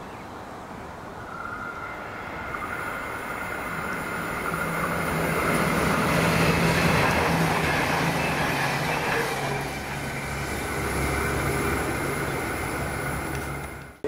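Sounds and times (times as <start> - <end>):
diesel train engine drone: 0.0 - 14.0
wheels on rails: 1.1 - 14.0.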